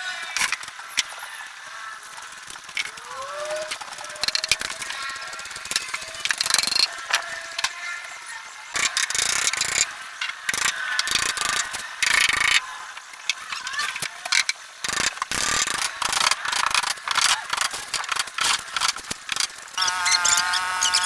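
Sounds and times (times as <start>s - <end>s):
mechanical clicking and rattling: 0.2s - 1.3s, 2.0s - 21.0s.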